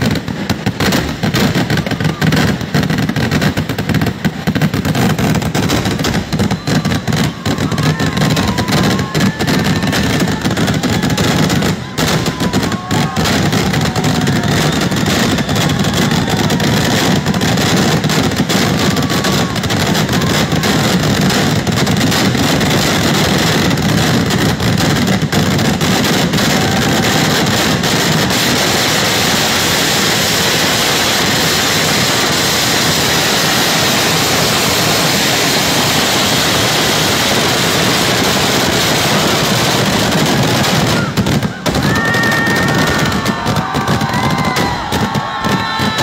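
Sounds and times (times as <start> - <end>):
fireworks explosions and crackling: 0.0 - 46.0
sharp firework cracks: 0.0 - 46.0.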